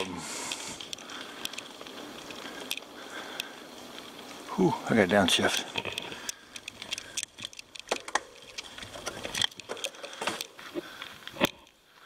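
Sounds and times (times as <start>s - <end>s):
light clicks and rattles: 0.0s - 11.8s.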